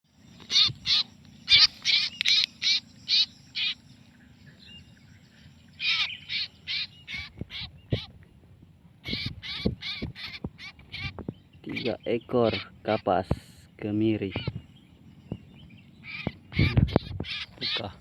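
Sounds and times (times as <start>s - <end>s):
birds calling with high wavering calls: 0.0s - 18.0s.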